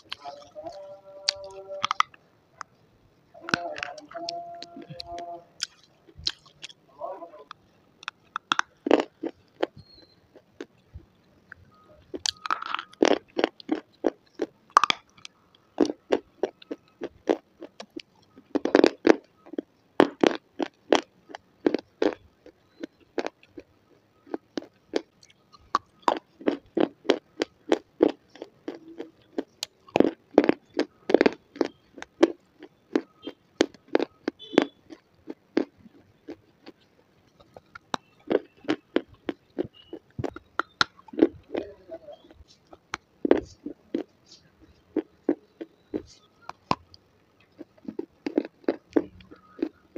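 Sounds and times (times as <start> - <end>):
crunching and chewing: 0.0 - 2.8, 3.4 - 49.9.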